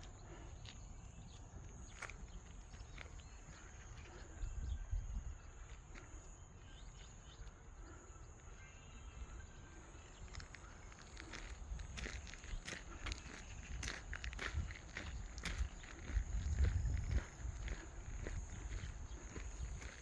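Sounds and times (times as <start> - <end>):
low wind rumble on microphone: 0.0 - 7.4, 9.0 - 20.0
faint chirps and ticks: 0.0 - 20.0.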